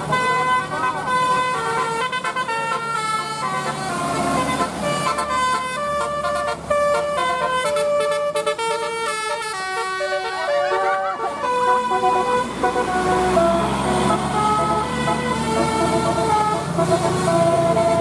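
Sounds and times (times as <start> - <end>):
multi-tone air horn melody: 0.0 - 18.0.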